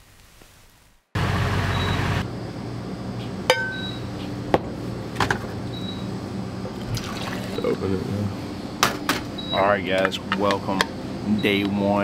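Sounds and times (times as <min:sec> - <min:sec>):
steady low hum: 0:01.2 - 0:12.0.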